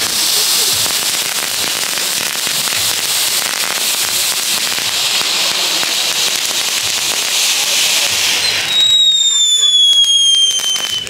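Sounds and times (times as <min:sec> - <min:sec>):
crackle of small firework pops: 0:00.0 - 0:11.0
firework fountains hissing: 0:00.0 - 0:11.0.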